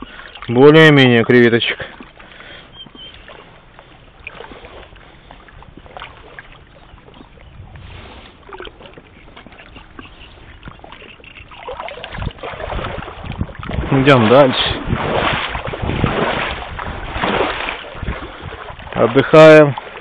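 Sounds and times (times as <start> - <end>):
shallow water sloshing and splashing: 0.0 - 20.0.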